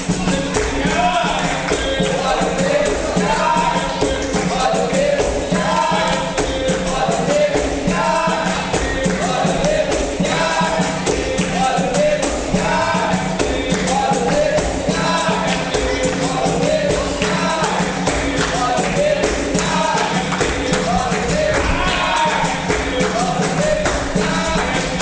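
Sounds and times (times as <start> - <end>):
group singing: 0.0 - 25.0
pandeiro jingling beat: 0.0 - 25.0.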